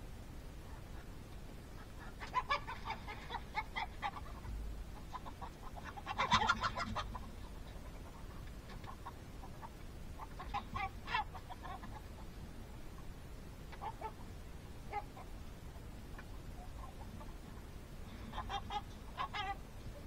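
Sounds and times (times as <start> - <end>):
chicken clucking: 1.7 - 20.0.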